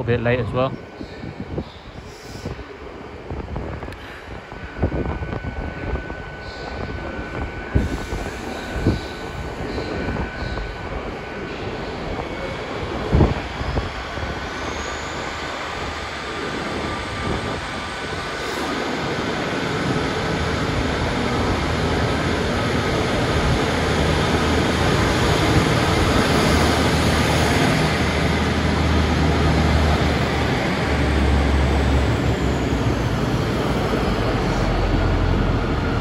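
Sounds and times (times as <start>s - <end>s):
diesel train engine hum: 0.0s - 36.0s
rail and wind noise: 0.0s - 36.0s.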